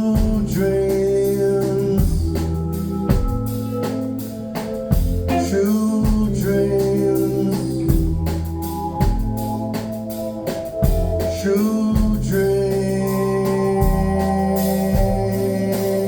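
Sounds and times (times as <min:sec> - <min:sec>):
drum beat with heavy bass: 0:00.0 - 0:16.0
live band music: 0:00.0 - 0:16.0.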